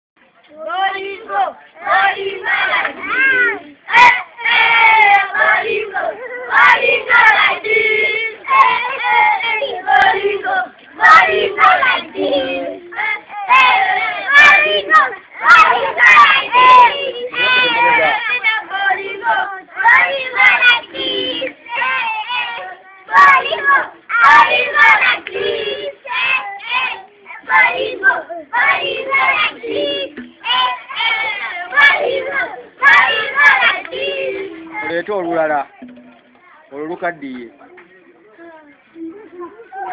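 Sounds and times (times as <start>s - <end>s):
children singing and calling out: 0.4s - 39.9s.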